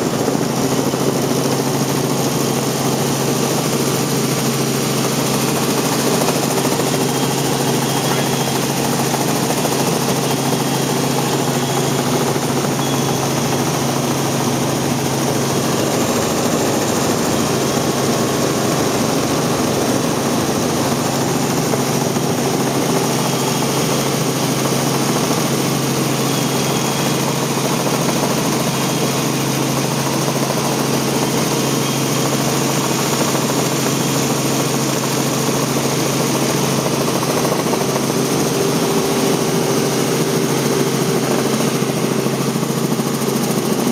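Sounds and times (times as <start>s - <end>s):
helicopter engine and rotors hum: 0.0s - 43.9s.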